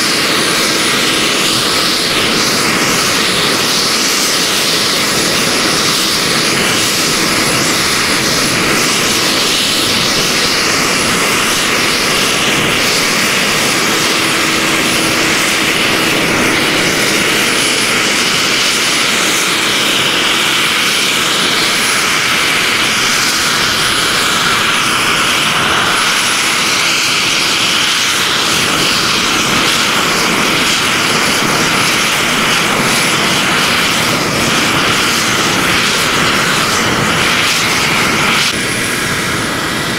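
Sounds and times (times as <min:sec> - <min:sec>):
model helicopter rotors whirring: 0:00.0 - 0:39.9.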